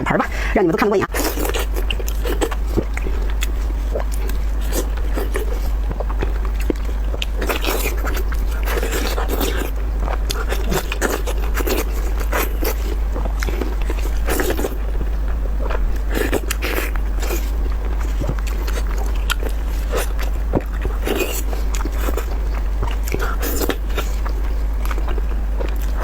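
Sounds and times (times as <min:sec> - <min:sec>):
wet chewing and lip-smacking: 0:00.0 - 0:26.0.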